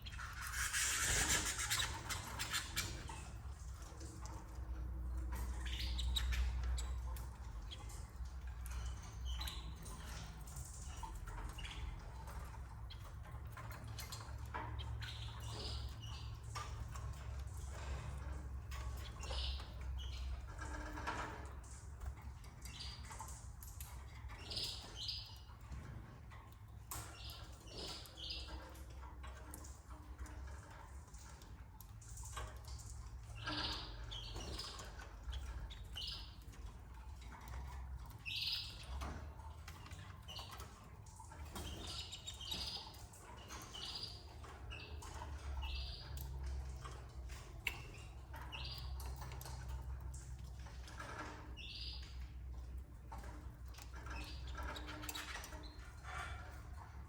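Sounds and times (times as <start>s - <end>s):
canaries chirping: 0.0s - 4.6s, 5.3s - 18.3s, 22.6s - 26.1s, 26.9s - 30.8s, 33.3s - 36.5s, 38.1s - 49.5s, 50.6s - 56.9s.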